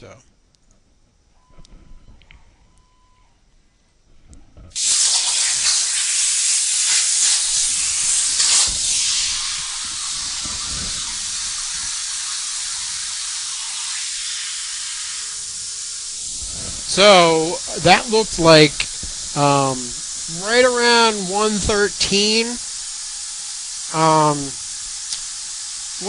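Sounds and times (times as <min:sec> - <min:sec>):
plasma torch hissing: 0:04.7 - 0:26.0.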